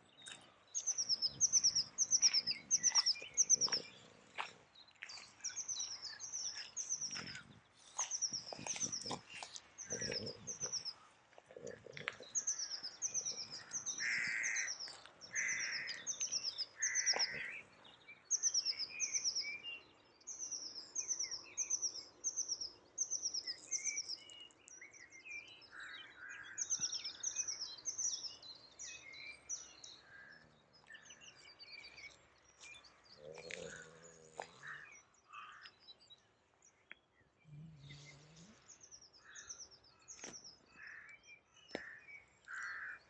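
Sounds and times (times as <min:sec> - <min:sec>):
other birds calling: 0:00.0 - 0:19.6, 0:25.6 - 0:35.8, 0:37.4 - 0:43.0.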